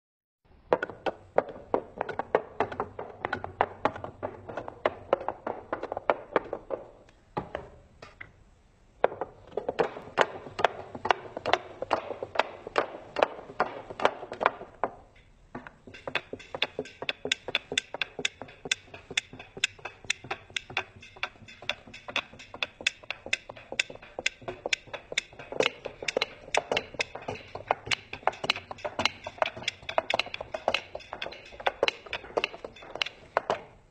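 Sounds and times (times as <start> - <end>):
wooden toy clacking: 0.6 - 8.3, 9.0 - 33.9.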